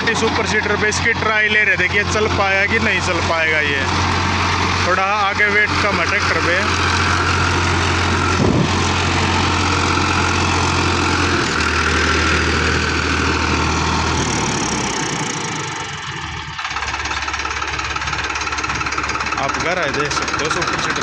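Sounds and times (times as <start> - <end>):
tractor engine at full throttle: 0.0 - 21.0.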